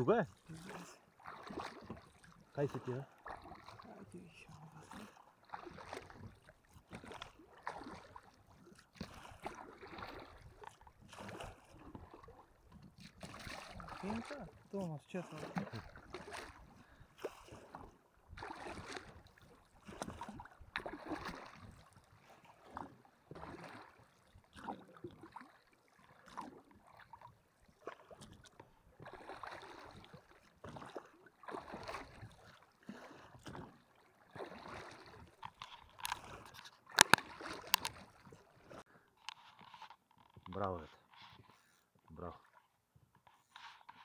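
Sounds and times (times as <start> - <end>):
oar strokes splashing water: 0.0 - 44.0.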